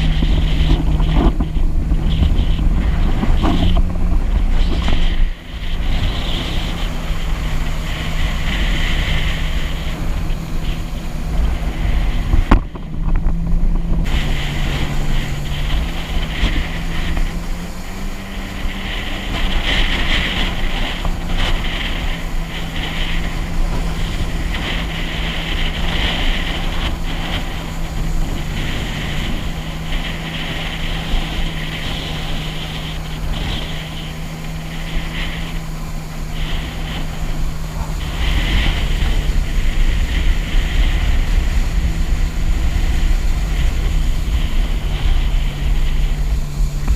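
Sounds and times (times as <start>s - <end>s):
jet ski engine humming: 0.0s - 46.9s
water rushing and spraying: 0.0s - 46.9s
wind buffeting microphone: 0.0s - 46.9s.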